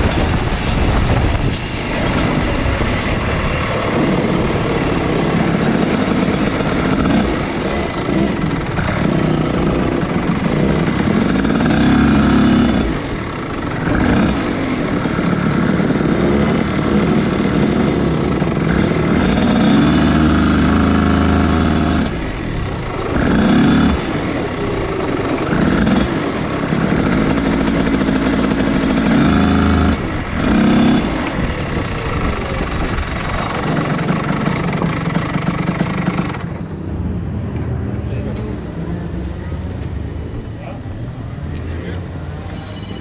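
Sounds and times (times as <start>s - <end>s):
kart engine revving: 0.0s - 37.3s.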